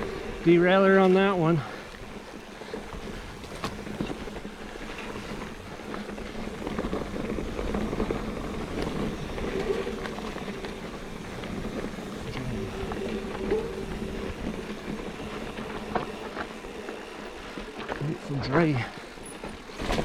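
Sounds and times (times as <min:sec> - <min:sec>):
steady hum: 0:00.0 - 0:19.2
bike tyres rolling on dirt: 0:00.0 - 0:20.0.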